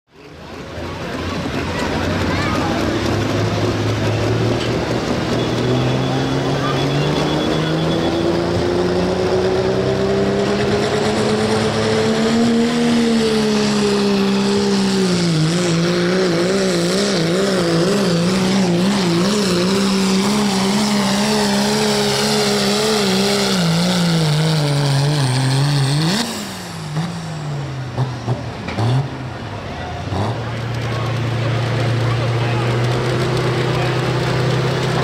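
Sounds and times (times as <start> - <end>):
diesel pickup engine at full throttle: 0.1 - 35.0.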